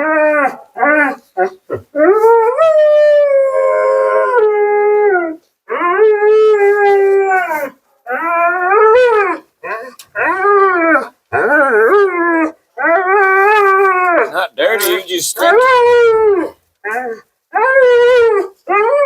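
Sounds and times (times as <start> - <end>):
husky howling: 0.0 - 14.4, 15.5 - 19.0.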